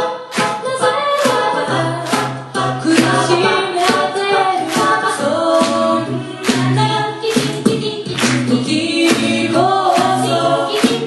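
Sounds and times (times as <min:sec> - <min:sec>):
voiced harmonies: 0:00.0 - 0:11.0
woman singing into microphone: 0:00.6 - 0:11.0.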